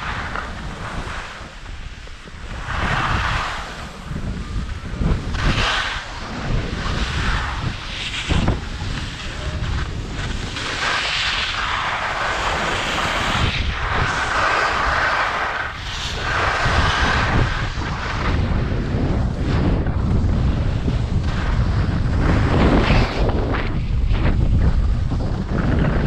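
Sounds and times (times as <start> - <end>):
skis hissing over snow: 0.0 - 26.0
wind buffeting microphone: 0.0 - 26.0.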